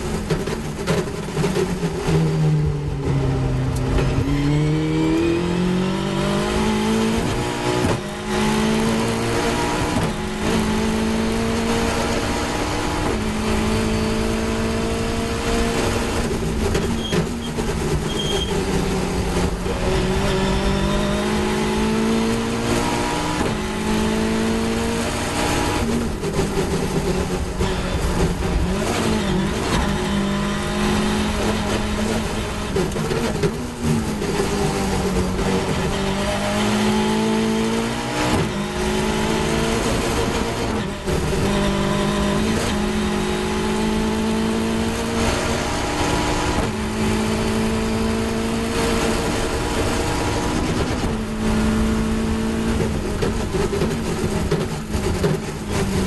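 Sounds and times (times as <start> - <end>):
race car engine revving: 0.0 - 56.0
road rush: 0.0 - 56.0.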